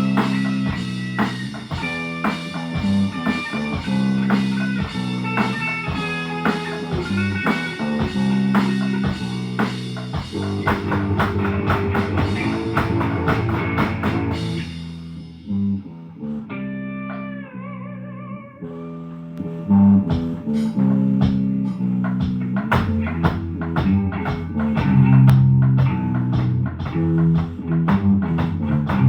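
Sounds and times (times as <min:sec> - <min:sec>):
amplified guitar riff: 0:00.0 - 0:29.0.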